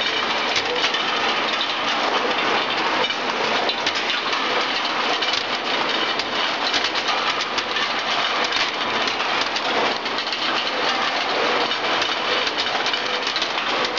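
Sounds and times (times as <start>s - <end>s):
rolling machine mechanical din: 0.0s - 13.9s
steel balls clicking and knocking: 0.0s - 13.9s.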